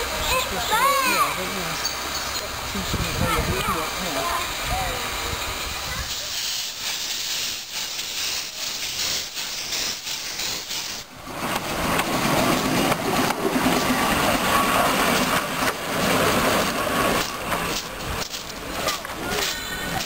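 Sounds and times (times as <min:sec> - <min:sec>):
steam hissing: 0:00.0 - 0:20.0
steam locomotive moving off: 0:00.0 - 0:20.0.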